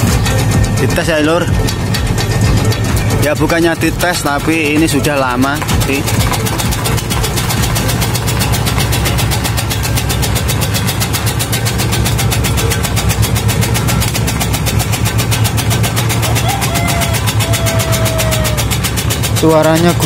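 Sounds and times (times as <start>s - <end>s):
blade chopping tobacco leaves: 0.0s - 20.0s
electric motor humming: 0.0s - 20.0s.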